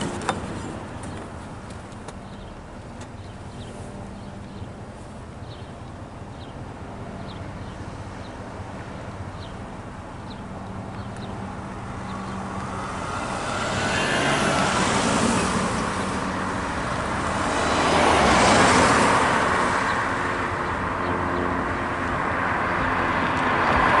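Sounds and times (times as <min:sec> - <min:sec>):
ambulance driving past: 0:02.3 - 0:24.0.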